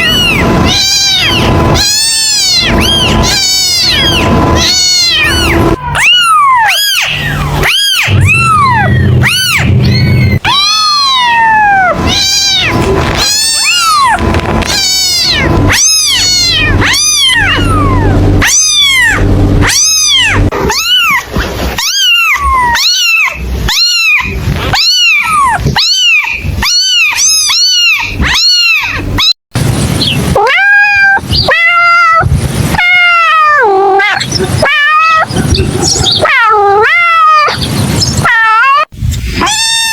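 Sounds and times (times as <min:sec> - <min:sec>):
kitten meowing: 0:00.0 - 0:29.4, 0:30.0 - 0:39.9.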